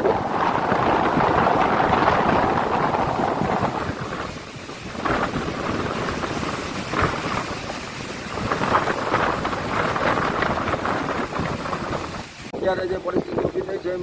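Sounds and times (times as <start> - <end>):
gusty wind on microphone: 0.0 - 14.0
rough sea rushing: 0.0 - 14.0.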